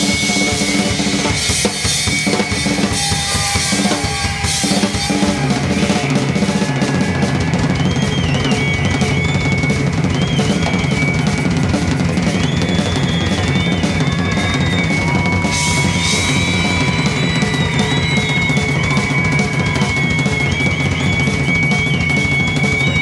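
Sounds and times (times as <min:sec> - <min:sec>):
rock drum solo: 0:00.0 - 0:23.0.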